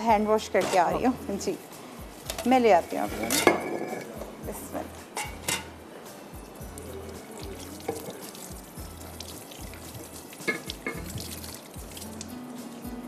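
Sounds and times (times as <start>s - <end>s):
soft music with bass beat: 0.0s - 13.0s.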